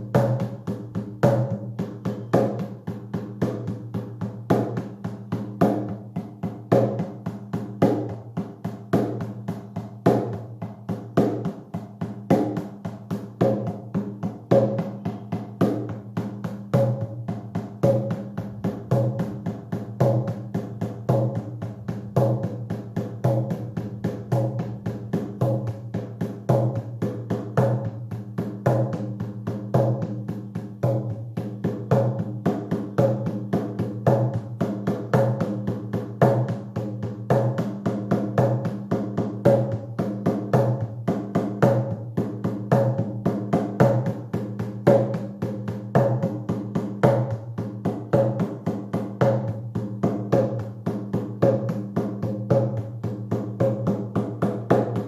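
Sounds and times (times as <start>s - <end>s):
hand drum beaten steadily: 0.0s - 55.0s.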